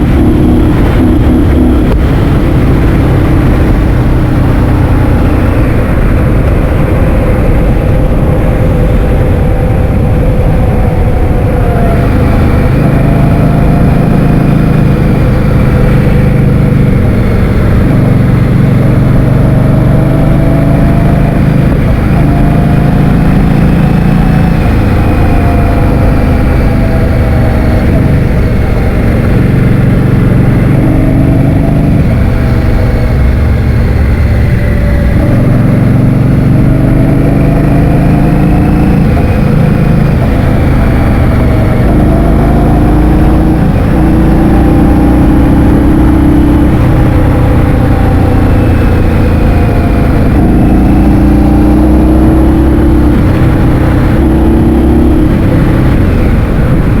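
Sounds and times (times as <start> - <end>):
vehicle engine running: 0.0 - 57.0
wind rumble on microphone: 0.0 - 57.0.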